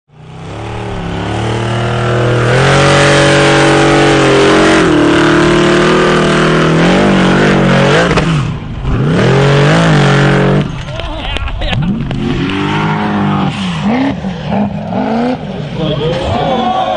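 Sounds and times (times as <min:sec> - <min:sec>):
off-road vehicle engine revving: 0:00.1 - 0:16.9.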